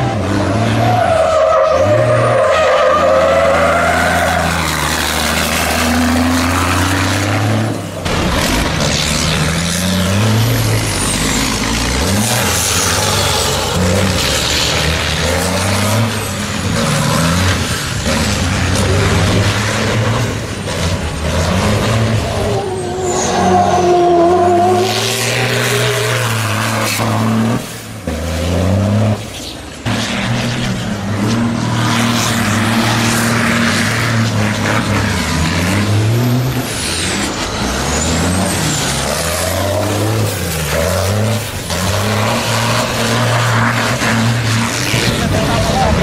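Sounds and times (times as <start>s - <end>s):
truck diesel engines revving: 0.0s - 46.0s.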